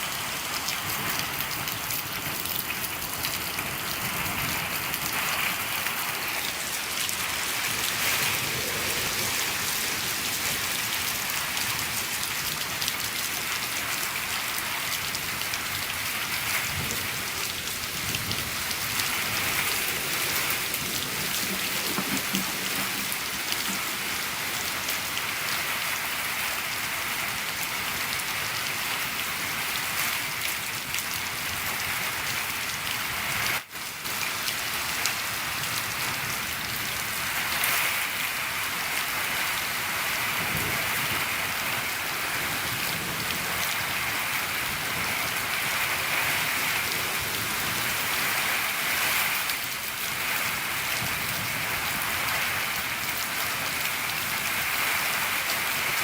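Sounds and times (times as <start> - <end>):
rain on a shed roof: 0.0 - 56.0.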